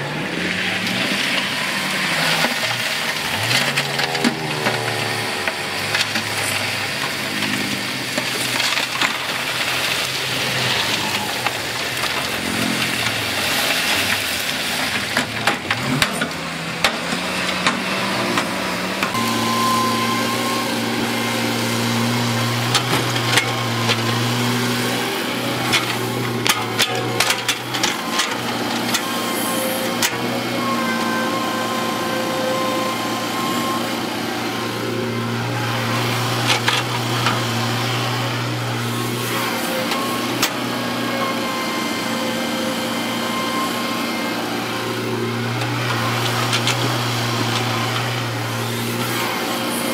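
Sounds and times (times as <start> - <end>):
heavy diesel engine under load: 0.0 - 49.9.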